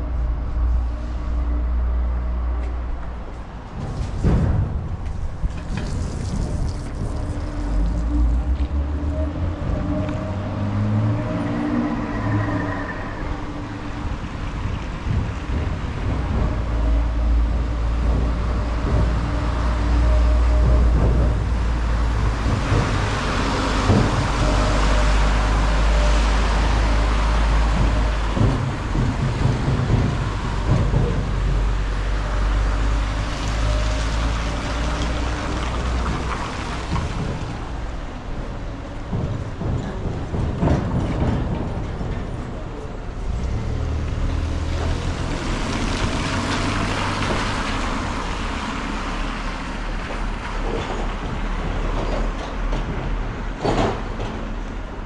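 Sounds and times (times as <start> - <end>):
cars passing with engine rumble: 0.0 - 55.0.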